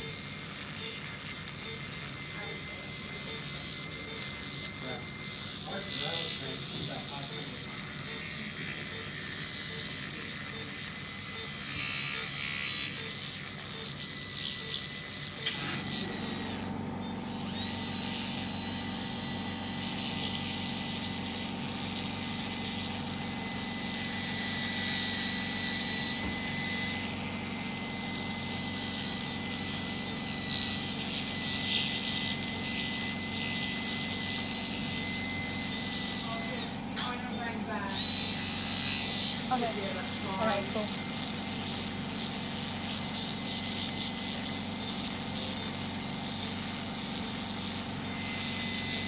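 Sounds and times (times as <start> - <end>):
dental polishing handpiece whine: 0.0 - 49.0.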